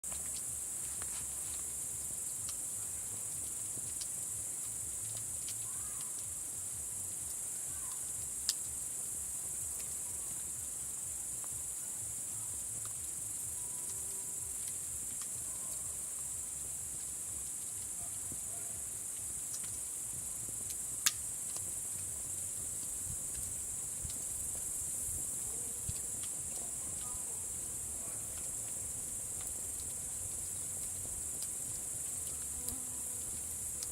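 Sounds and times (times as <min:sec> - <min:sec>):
campfire crackling and popping: 0:00.0 - 0:33.9
high-pitched insect chorus: 0:00.0 - 0:33.9.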